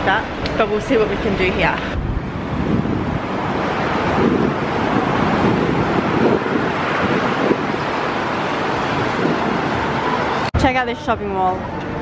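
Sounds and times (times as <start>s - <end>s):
road traffic passing: 0.0s - 12.0s
wind buffeting microphone: 0.0s - 12.0s.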